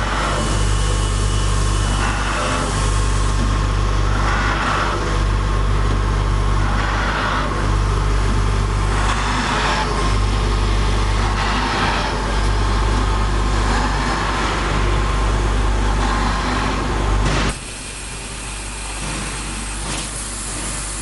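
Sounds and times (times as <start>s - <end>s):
drill motors humming: 0.0s - 21.0s.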